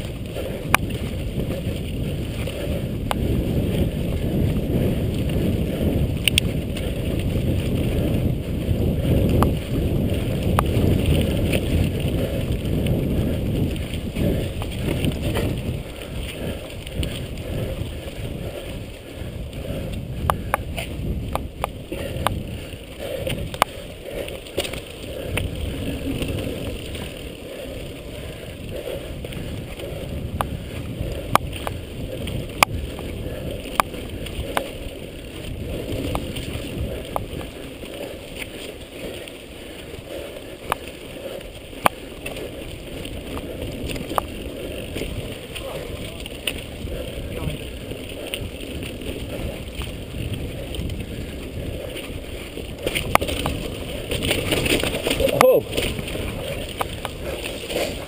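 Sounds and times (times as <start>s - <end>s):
bike clicks and rattles: 0.0s - 58.0s
tyres rumbling on dirt: 0.0s - 58.0s.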